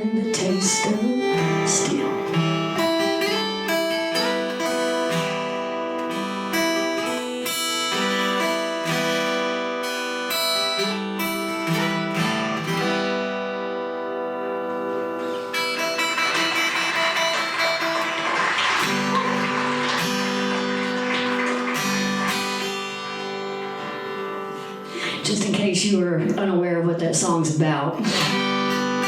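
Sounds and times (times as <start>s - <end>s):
fingerpicked acoustic guitar: 0.0s - 29.0s.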